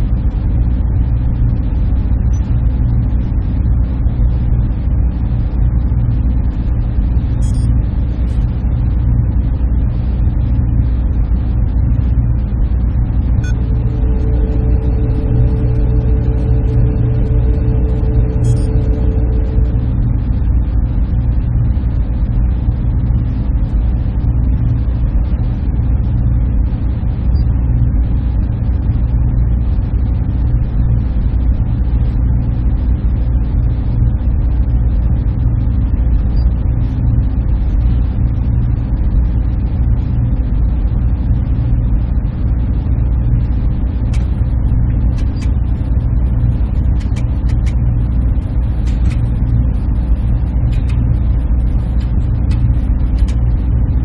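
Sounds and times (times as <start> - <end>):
server room fans droning: 0.0 - 54.0.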